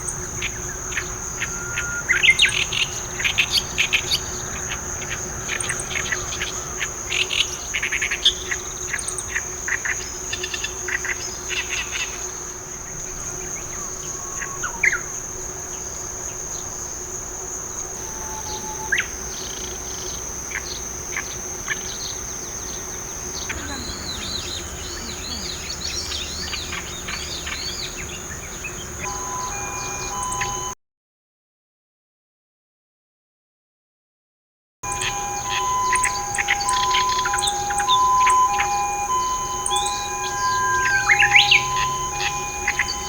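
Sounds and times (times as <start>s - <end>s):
bunting singing: 0.0s - 30.8s, 34.8s - 43.0s
high insect trill: 0.0s - 30.8s, 34.8s - 43.0s
warbler harsh chattering: 0.1s - 30.7s, 34.9s - 43.0s.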